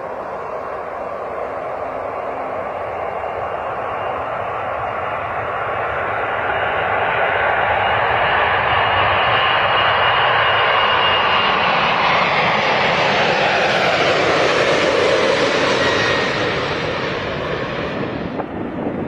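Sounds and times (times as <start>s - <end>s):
jet airliner roaring overhead: 0.0s - 19.0s.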